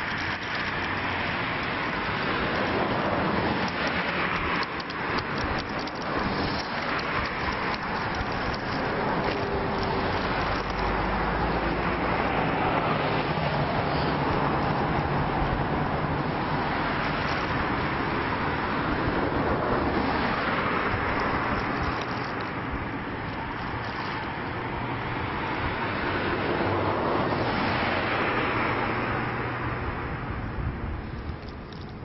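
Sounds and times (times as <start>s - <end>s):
road traffic: 0.0s - 32.0s.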